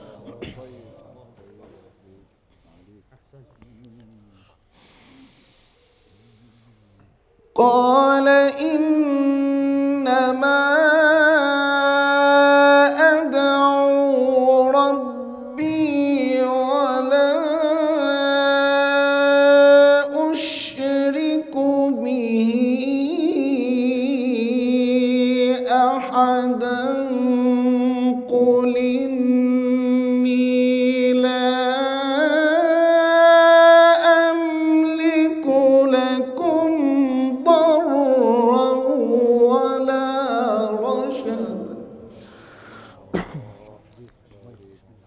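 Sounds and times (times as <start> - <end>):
man reciting melodically: 0.0 - 45.0.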